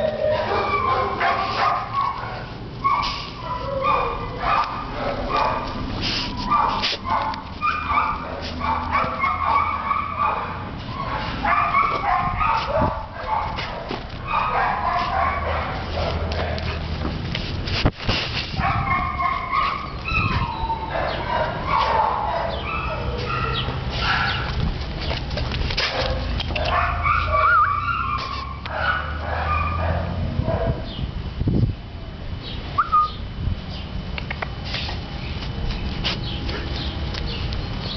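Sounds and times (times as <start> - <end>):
dogs barking and yipping: 0.0 - 31.0.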